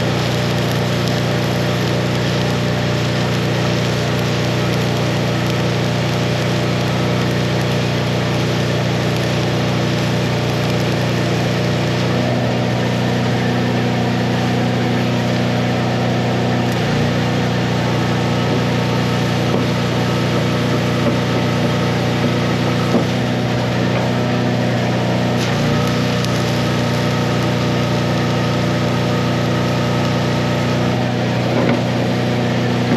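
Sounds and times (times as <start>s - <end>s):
engine-driven welder running: 0.0s - 32.9s
welding arc crackling: 0.0s - 32.9s.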